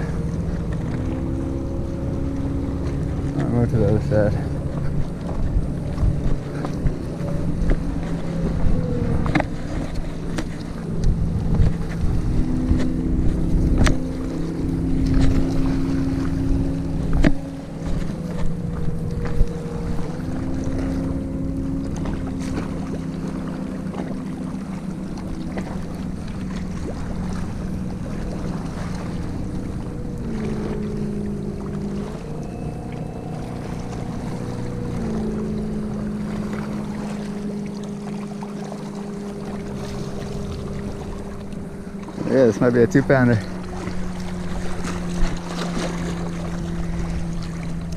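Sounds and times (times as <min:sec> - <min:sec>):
motorboat engine droning: 0:00.0 - 0:47.9
wind buffeting microphone: 0:00.0 - 0:47.9.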